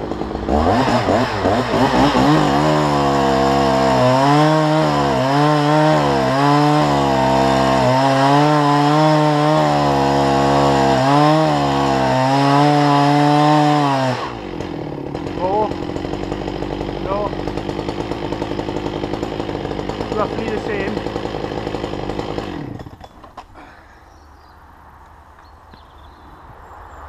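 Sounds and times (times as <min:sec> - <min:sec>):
chainsaw cutting wood: 0:00.0 - 0:24.2.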